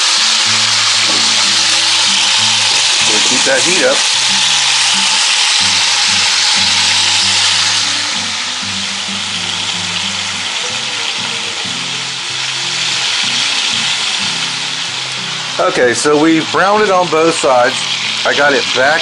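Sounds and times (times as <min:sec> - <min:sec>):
meat sizzling in hot fat: 0:00.0 - 0:19.0
quiet background music: 0:00.4 - 0:19.0.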